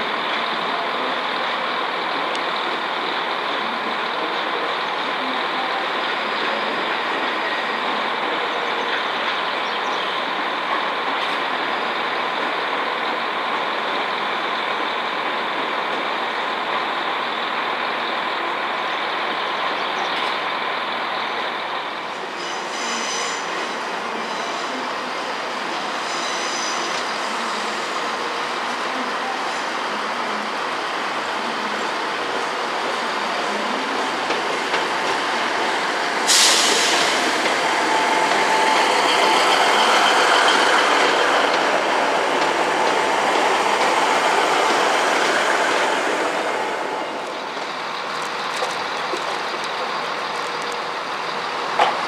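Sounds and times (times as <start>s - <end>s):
train running: 0.0s - 52.0s.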